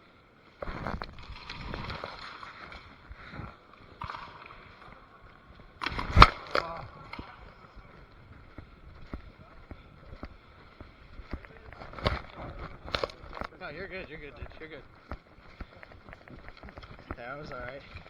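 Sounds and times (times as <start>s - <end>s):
rustling against microphone: 0.0s - 18.0s.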